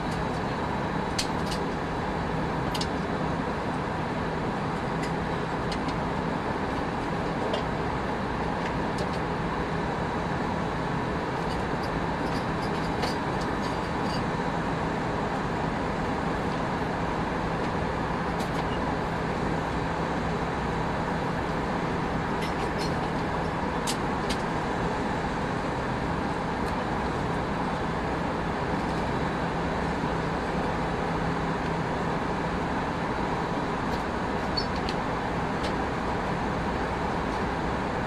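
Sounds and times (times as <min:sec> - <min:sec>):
airplane cabin airflow and engine drone: 0:00.0 - 0:38.0.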